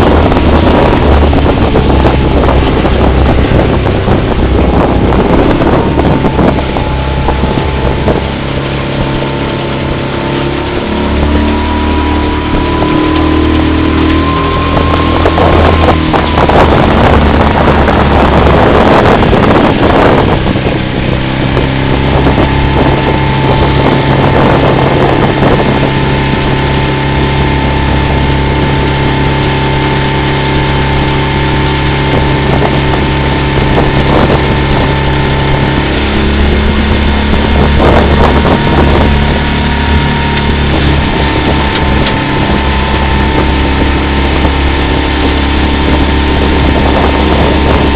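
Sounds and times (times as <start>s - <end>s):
motorboat engine running: 0.0s - 47.9s
wind buffeting microphone: 0.0s - 47.9s.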